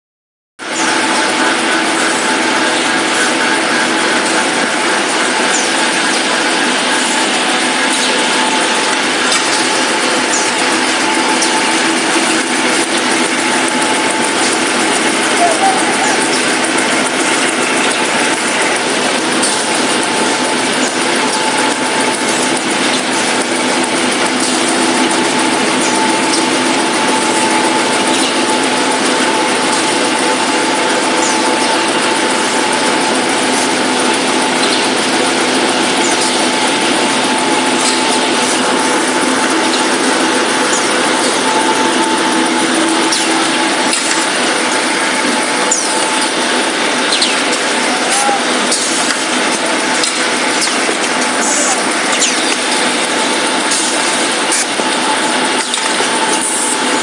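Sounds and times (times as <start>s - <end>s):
constant machine tone: 0.6s - 57.0s
loud steady machine noise: 0.6s - 57.0s.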